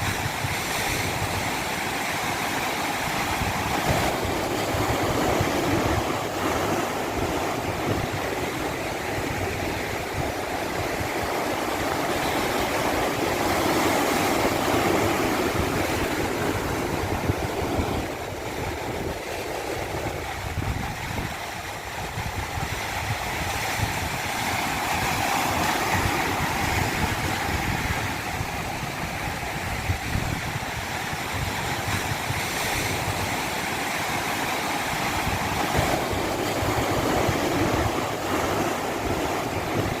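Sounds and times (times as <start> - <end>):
rushing water: 0.0 - 40.0.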